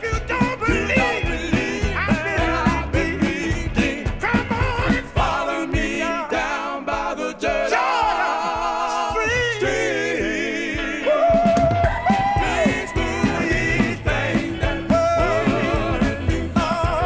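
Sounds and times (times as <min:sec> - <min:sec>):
backing music: 0:00.0 - 0:17.0
singing voices holding long notes: 0:00.0 - 0:17.0.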